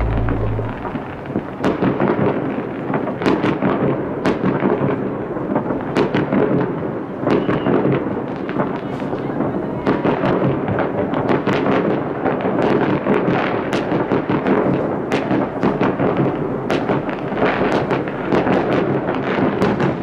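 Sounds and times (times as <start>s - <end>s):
distant fireworks rumble and crackle: 2.8s - 20.0s.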